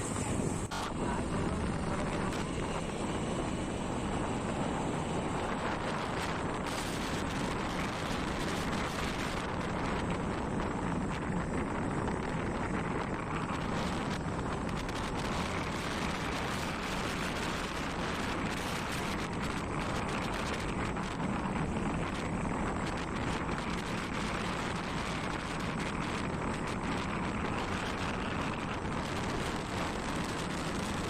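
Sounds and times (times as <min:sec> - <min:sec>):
vehicle road noise: 0:00.0 - 0:31.0
wind on microphone: 0:00.0 - 0:31.0.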